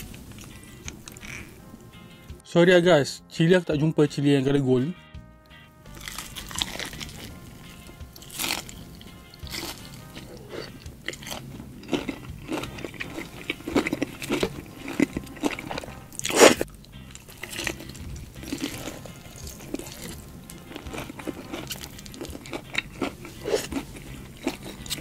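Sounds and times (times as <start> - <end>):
crispy food crunching when chewed: 0.2 - 1.5, 5.9 - 25.0.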